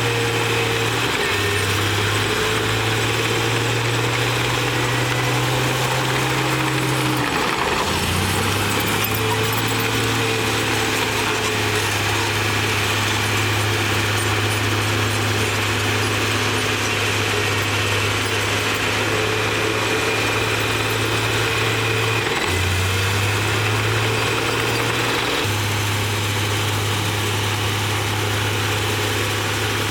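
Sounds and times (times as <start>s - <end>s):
bulldozer diesel engine running: 0.0s - 29.9s.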